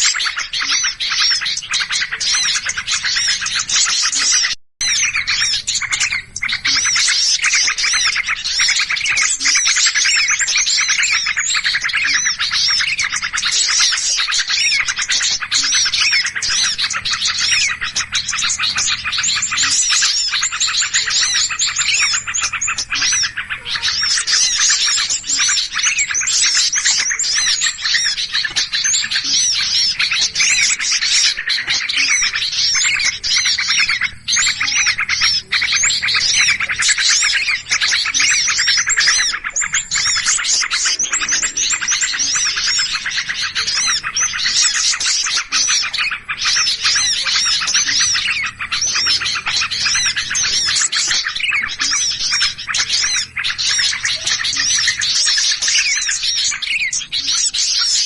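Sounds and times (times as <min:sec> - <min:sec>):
songbirds chattering and chirping: 0:00.0 - 0:58.0.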